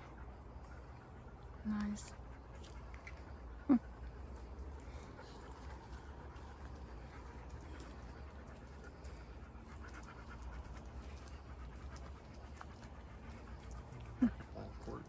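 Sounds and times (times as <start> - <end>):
dog panting: 0.0 - 15.0
low steady rumble: 0.0 - 15.0.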